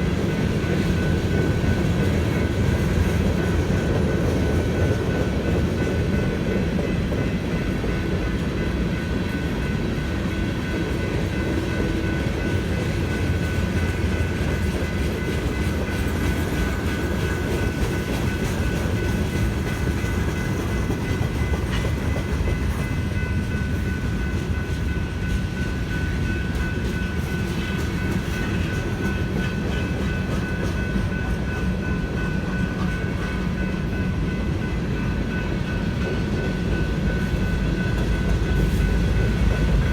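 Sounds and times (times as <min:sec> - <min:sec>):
crossing bell ringing: 0:00.0 - 0:39.9
freight train rumbling and clattering: 0:00.0 - 0:39.9.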